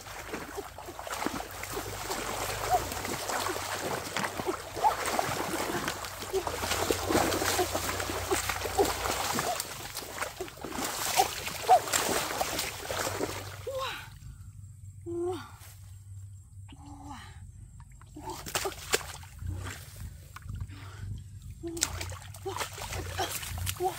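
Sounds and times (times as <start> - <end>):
muddy water splashing: 0.0 - 14.3, 17.9 - 23.9.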